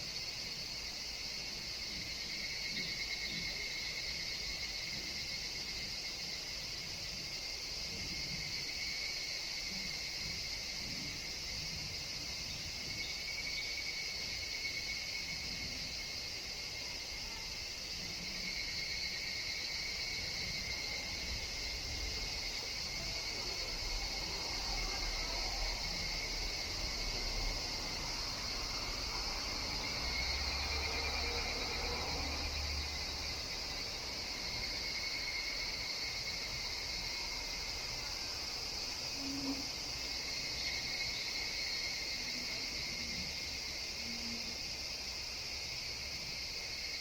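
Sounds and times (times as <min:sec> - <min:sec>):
evening cicadas: 0:00.0 - 0:47.0
higher-pitched insect call: 0:00.0 - 0:47.0
insects chorus: 0:00.0 - 0:47.0.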